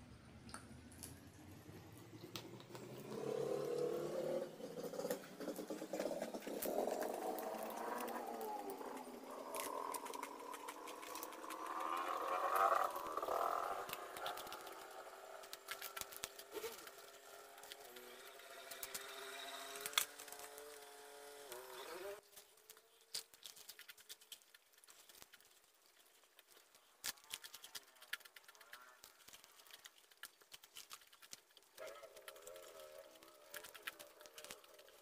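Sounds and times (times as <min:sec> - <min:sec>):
crackling clicks of eating fried food: 0:00.5 - 0:01.3, 0:01.9 - 0:03.9, 0:04.7 - 0:21.6, 0:22.3 - 0:35.0.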